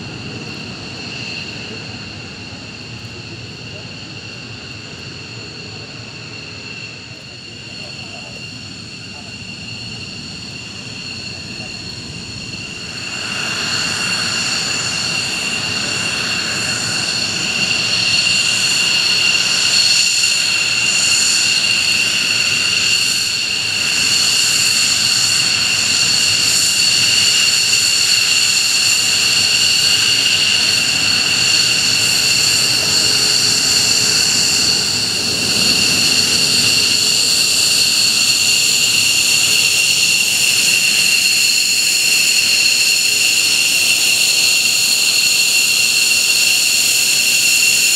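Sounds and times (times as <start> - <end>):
jet engine whine and rush: 0.0 - 47.9.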